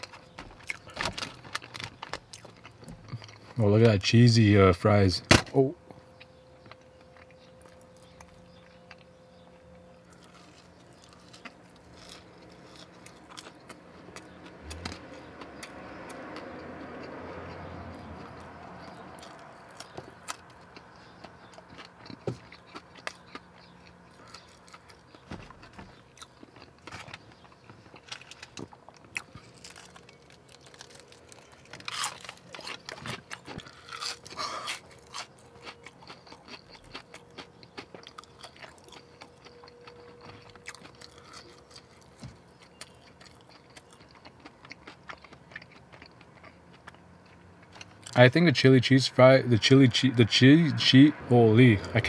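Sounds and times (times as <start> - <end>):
chewing with crunches: 0.0 - 4.9, 5.8 - 51.0.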